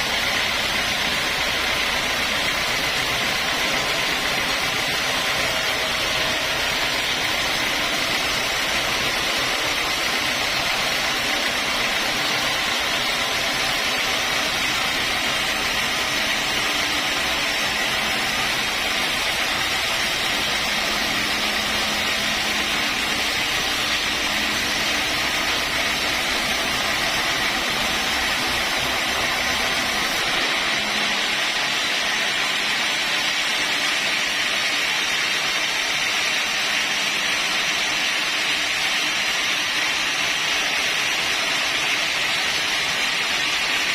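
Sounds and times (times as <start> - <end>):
saw cutting through log: 0.0 - 43.9.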